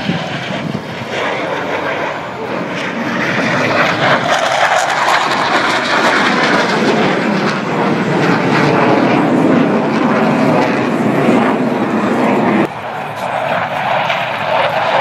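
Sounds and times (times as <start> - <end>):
jet engine roar overhead: 0.0 - 15.0.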